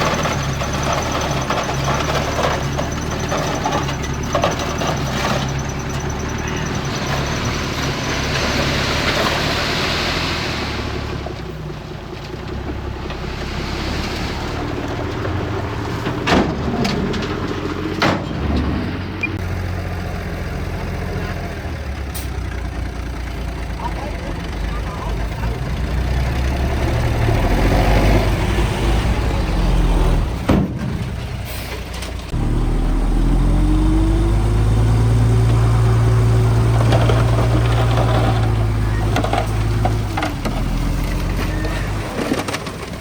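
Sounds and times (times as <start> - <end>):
diesel machinery running: 0.0 - 43.0.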